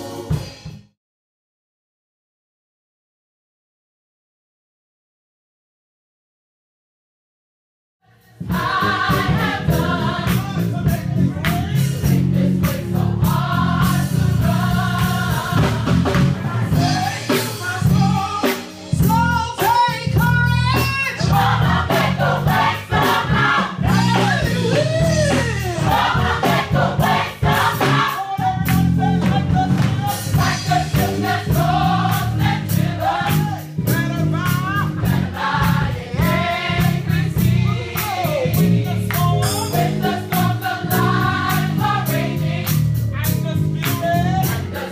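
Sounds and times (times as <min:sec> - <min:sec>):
gospel choir singing: 0:00.0 - 0:00.7, 0:08.1 - 0:44.9
live drums and band: 0:00.0 - 0:01.0, 0:08.2 - 0:44.9.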